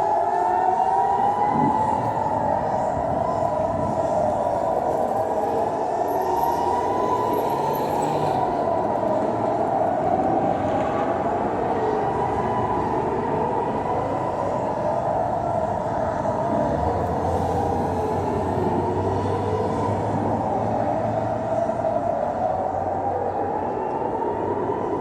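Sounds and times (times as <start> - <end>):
siren wailing: 0.0 - 25.0.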